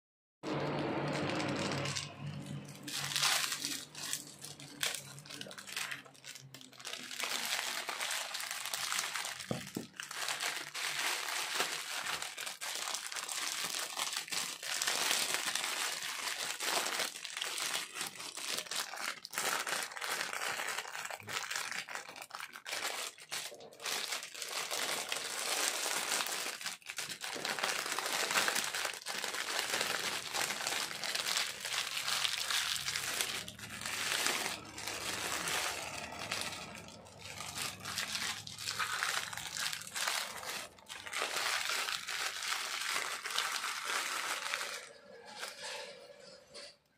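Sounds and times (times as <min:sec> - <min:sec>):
plastic packaging crinkling: 0:00.5 - 0:46.8.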